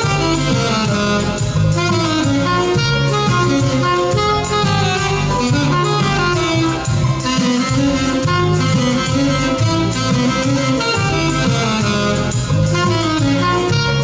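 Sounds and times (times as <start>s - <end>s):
bass and percussion backing track: 0.0s - 14.0s
saxophone melody: 0.0s - 14.0s.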